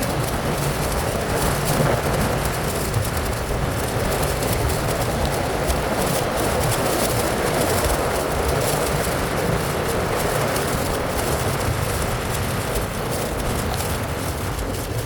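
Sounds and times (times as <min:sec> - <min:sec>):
road noise: 0:00.0 - 0:15.0
wind noise: 0:00.0 - 0:15.0.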